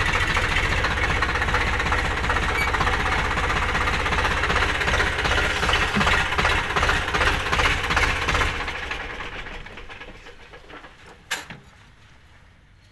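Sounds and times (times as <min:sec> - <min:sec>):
tractor diesel engine knocking: 0:00.0 - 0:11.3.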